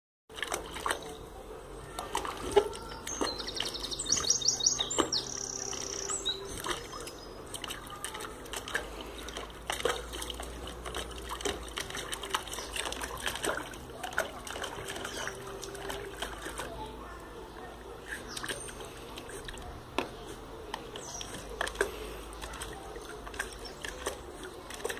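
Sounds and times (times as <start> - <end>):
dog splashing in water: 0.3 - 24.9.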